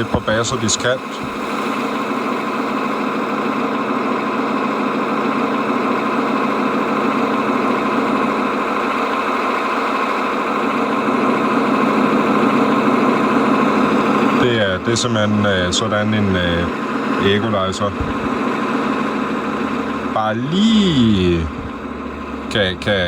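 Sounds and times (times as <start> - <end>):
truck engine idling through speaker: 0.0 - 23.0.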